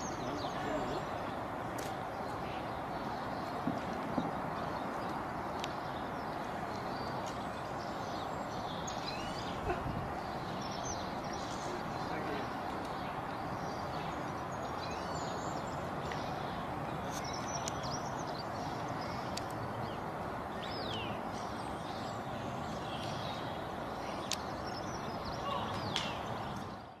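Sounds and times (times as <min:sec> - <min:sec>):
outdoor background noise: 0:00.0 - 0:27.0
small birds chirping: 0:00.0 - 0:27.0.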